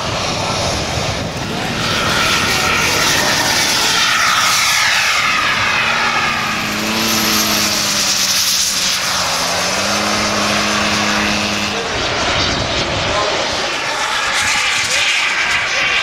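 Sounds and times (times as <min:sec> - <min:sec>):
loud rushing jet noise: 0:00.0 - 0:16.0
low steady drone: 0:00.0 - 0:16.0.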